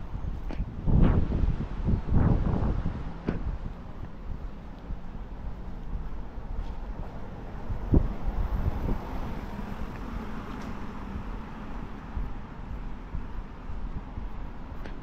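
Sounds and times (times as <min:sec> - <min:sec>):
car tyre noise passing: 0:00.0 - 0:15.0
wind buffeting microphone: 0:00.0 - 0:15.0.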